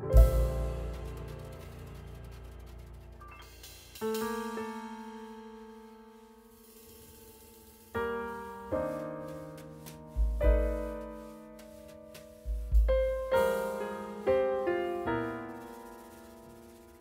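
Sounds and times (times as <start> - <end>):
deep piano bass notes: 0.0 - 6.5, 8.1 - 16.8
slow piano chords: 0.0 - 17.0.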